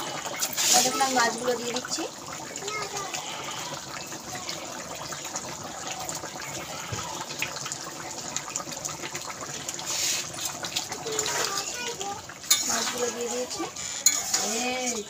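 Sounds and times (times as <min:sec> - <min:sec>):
curry bubbling at a boil: 0:00.0 - 0:15.0.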